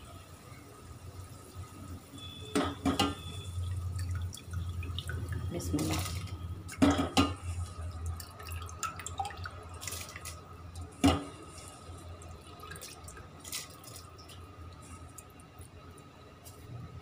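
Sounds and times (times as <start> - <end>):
wet rice splashing into boiling water: 0.3 - 16.6.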